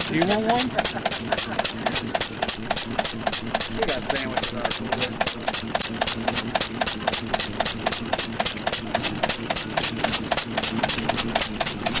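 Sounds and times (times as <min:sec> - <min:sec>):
stationary engine clicking: 0:00.0 - 0:12.0.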